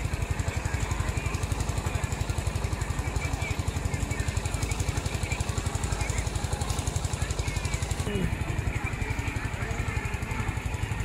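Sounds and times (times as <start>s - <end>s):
engine throbbing: 0.0s - 11.0s.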